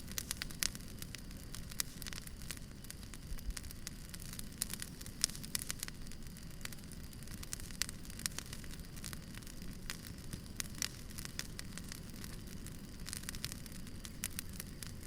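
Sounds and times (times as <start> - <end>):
low hiss: 0.0 - 15.0
wood fire crackling: 0.0 - 15.0.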